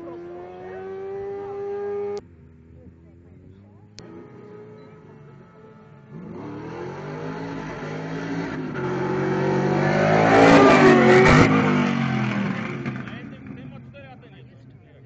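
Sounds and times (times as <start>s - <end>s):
motorcycle engine racing: 0.0s - 15.0s.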